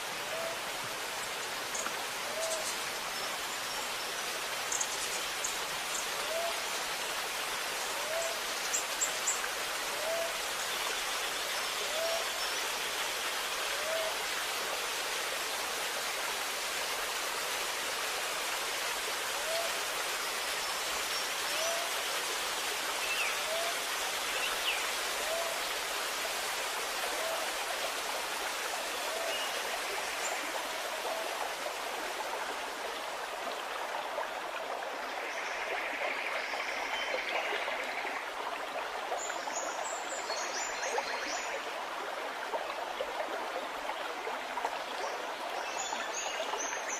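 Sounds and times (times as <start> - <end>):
water rushing: 0.0 - 46.9.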